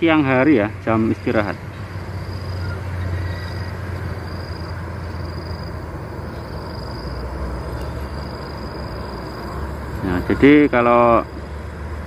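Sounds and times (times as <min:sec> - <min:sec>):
road traffic hum: 0:00.0 - 0:12.0
high insect chirp: 0:01.4 - 0:11.8.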